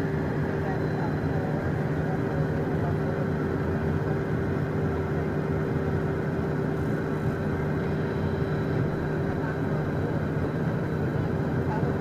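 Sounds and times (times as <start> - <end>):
jet engines idling in cockpit: 0.0 - 12.0.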